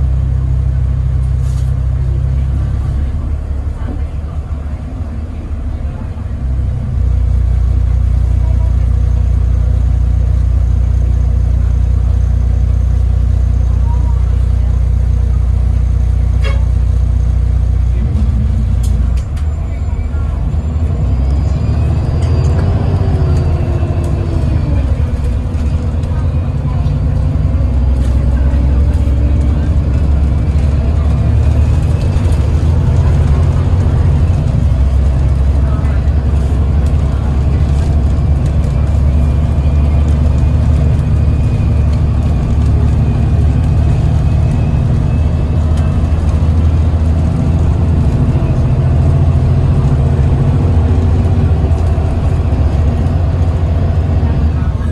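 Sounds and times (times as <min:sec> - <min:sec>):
bus engine and road rumble: 0:00.0 - 0:54.9.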